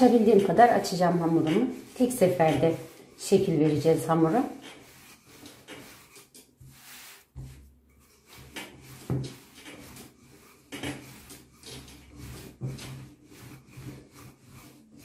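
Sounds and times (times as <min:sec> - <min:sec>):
rolling pin rubbing over dough: 0:00.0 - 0:15.0.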